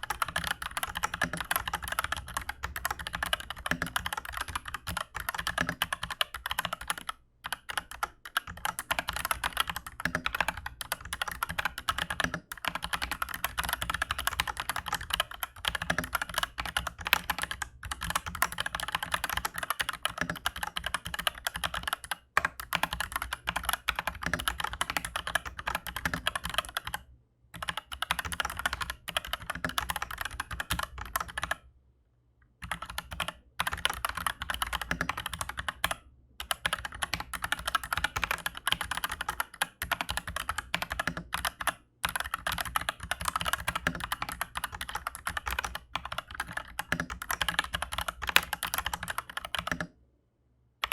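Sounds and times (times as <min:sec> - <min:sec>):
mechanical keyboard typing: 0:00.0 - 0:27.0, 0:27.6 - 0:31.6, 0:32.6 - 0:49.9.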